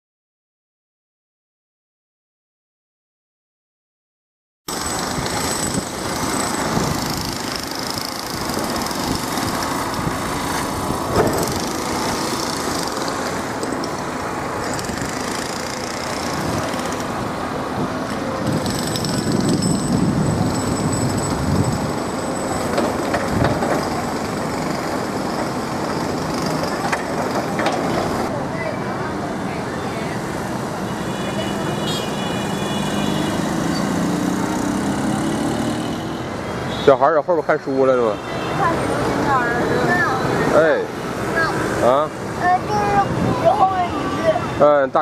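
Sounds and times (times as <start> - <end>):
moving vehicle rumble: 4.7 - 45.0.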